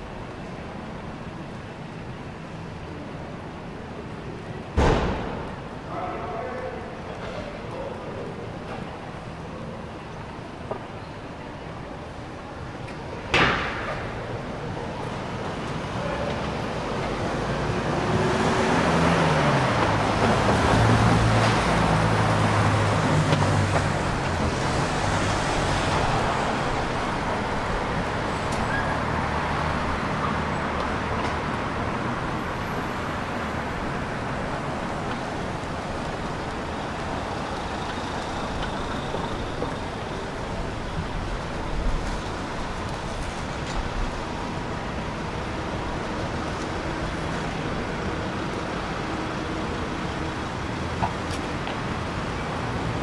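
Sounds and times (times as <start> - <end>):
street traffic: 0.0 - 53.0.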